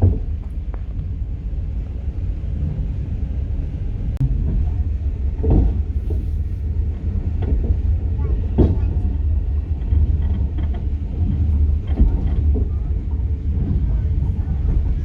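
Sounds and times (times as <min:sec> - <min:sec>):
wheels clacking over rail joints: 0:00.0 - 0:03.3, 0:04.1 - 0:15.0
train rumbling: 0:00.0 - 0:15.0.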